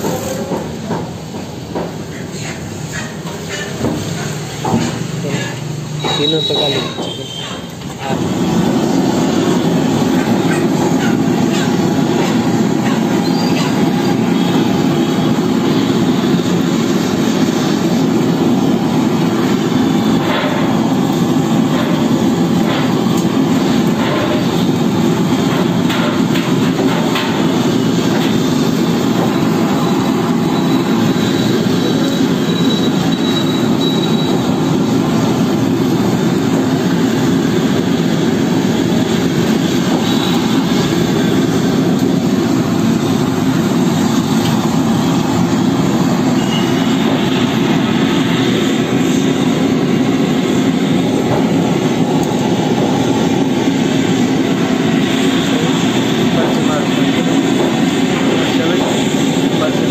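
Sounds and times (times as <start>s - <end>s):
blowtorch flame roaring: 0.0s - 59.9s.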